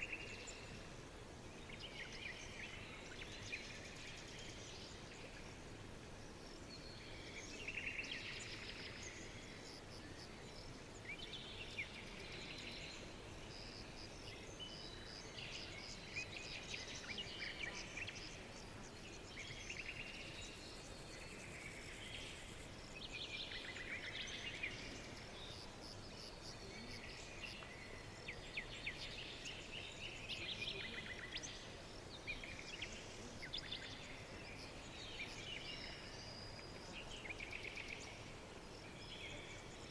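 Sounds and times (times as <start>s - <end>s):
outdoor ambient hiss: 0.0s - 39.9s
songbirds chirping: 0.0s - 39.9s.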